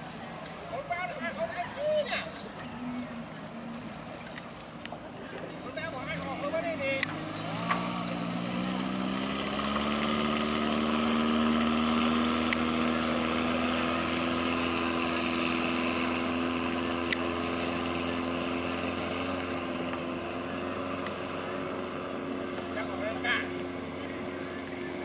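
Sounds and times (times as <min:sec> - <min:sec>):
boat engine running at speed: 0:00.0 - 0:25.0.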